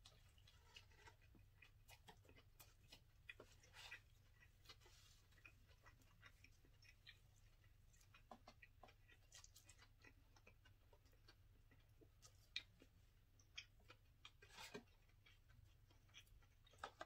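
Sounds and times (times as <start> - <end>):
chewing with mouth clicks: 0.0 - 17.0.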